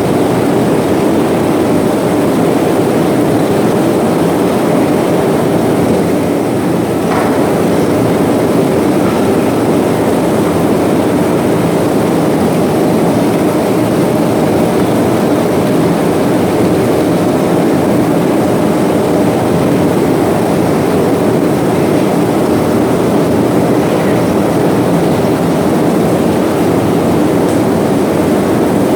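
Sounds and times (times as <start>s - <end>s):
faint constant hum: 0.0s - 28.9s
loud steady machinery noise: 0.0s - 28.9s.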